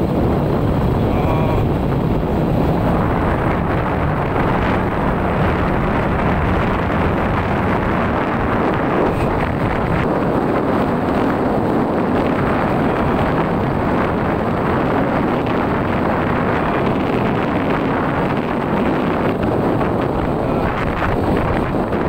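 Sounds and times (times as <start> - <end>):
moving vehicle running noise: 0.0 - 22.0
wind on microphone: 0.0 - 22.0.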